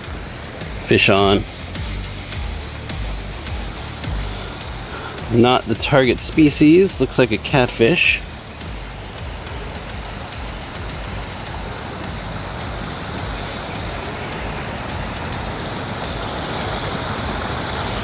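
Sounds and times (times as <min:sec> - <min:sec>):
fast-flowing water rushing: 0:00.0 - 0:18.0.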